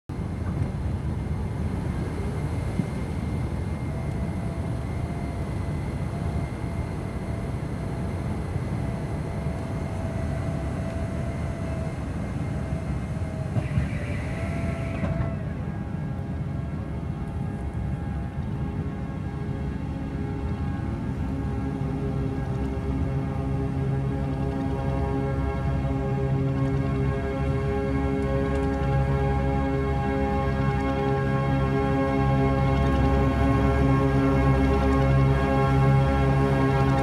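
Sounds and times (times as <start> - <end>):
faint wavering engine whine: 0.1 - 37.0
jet engine rumble in cabin: 0.1 - 37.0.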